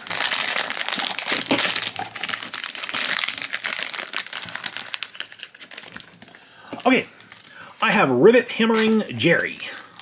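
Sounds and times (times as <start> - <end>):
foil bag crinkling: 0.0 - 10.0.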